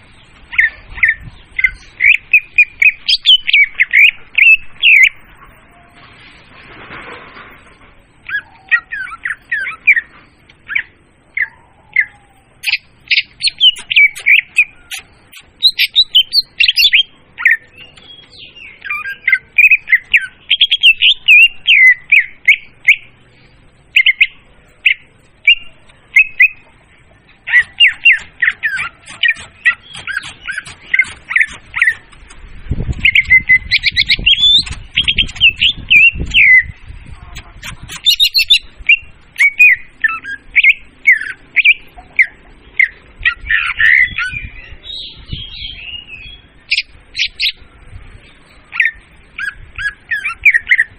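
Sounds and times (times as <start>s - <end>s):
bird chattering and whistling: 0.5s - 5.4s, 8.2s - 23.2s, 23.9s - 47.6s, 48.7s - 50.9s.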